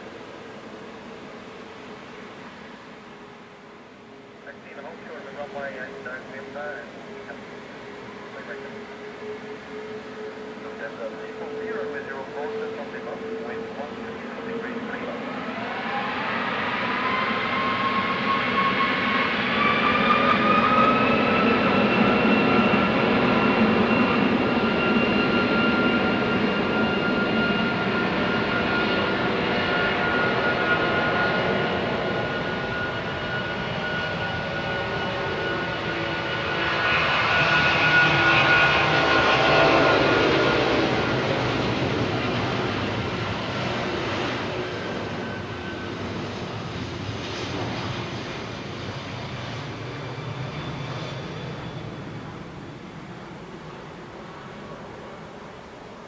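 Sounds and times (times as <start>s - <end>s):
jet engines spooling up: 4.4s - 55.0s.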